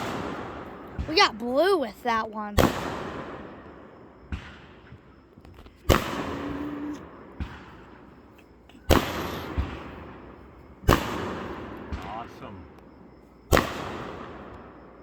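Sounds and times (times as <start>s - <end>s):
firework booms with rumbling echo: 0.0s - 1.2s, 2.6s - 15.0s
sharp firework pops: 0.0s - 1.2s, 2.6s - 14.8s.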